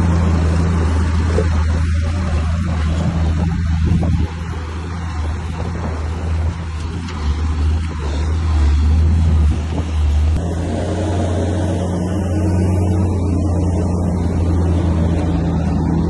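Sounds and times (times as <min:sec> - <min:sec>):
heavy diesel engine humming: 0:00.0 - 0:16.0.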